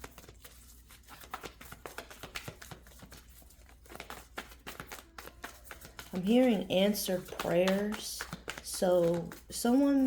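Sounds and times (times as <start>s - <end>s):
cards being flicked and tapped: 0.0s - 10.0s.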